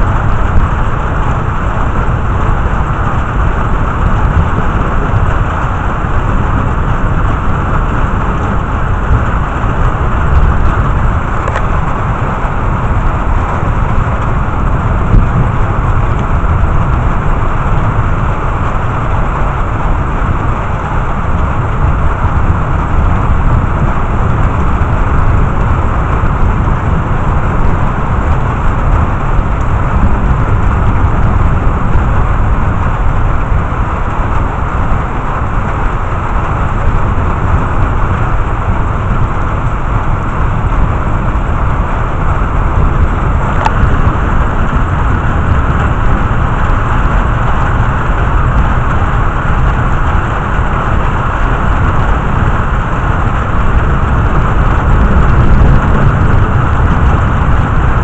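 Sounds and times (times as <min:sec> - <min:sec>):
deep low rumble: 0:00.0 - 0:58.0
heavy rain falling: 0:00.0 - 0:58.0.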